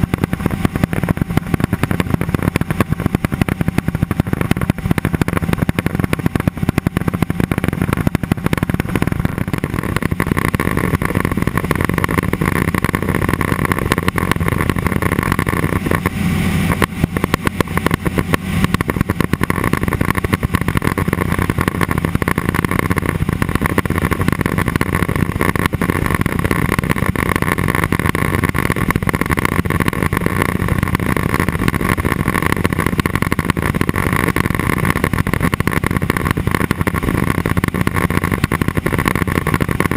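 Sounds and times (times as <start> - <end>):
airplane engine drone: 0.0 - 39.9.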